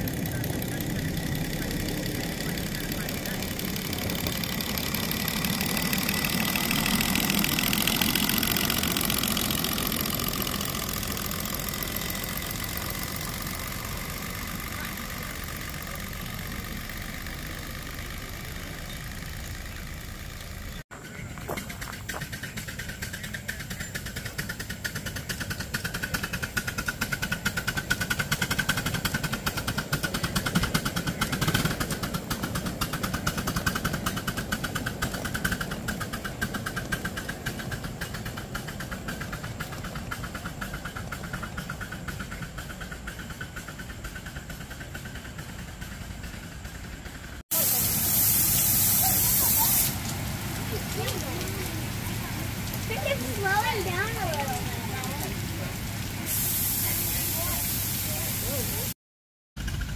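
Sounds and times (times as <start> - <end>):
steam locomotive chuffing: 0.0 - 59.0, 59.6 - 59.9.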